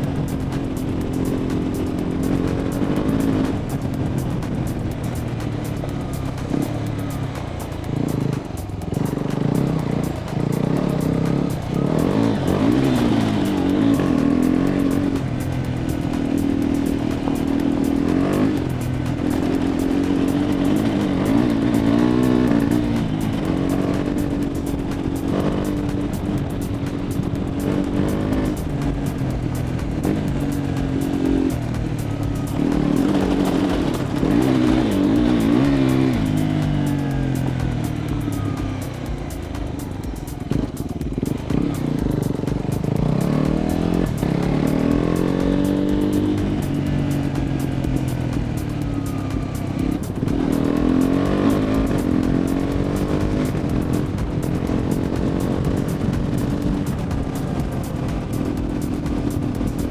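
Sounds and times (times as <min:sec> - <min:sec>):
background music with bass line: 0:00.0 - 0:59.9
motorcycle engine running: 0:00.0 - 0:59.9.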